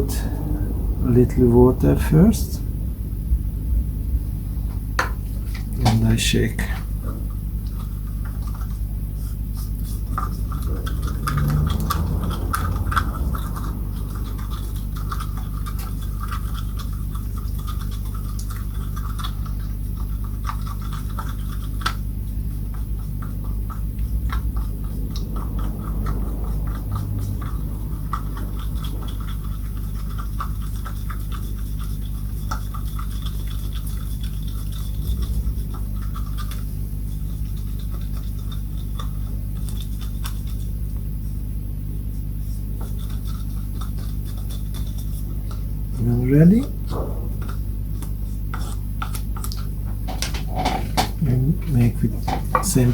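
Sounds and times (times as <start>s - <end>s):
steady low hum: 0.0s - 52.9s
scratchy rubbing and scrubbing: 6.8s - 52.9s.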